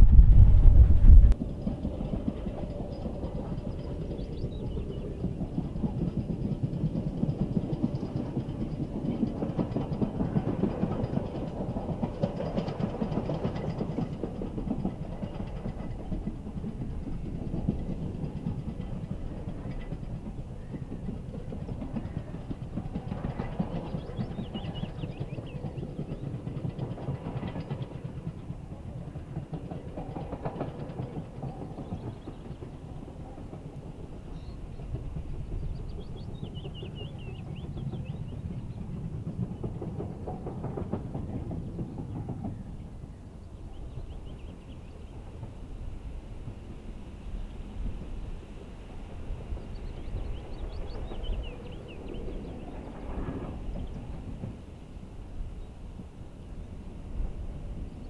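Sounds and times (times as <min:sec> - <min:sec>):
distant steam locomotive rumble: 0:00.0 - 0:58.0.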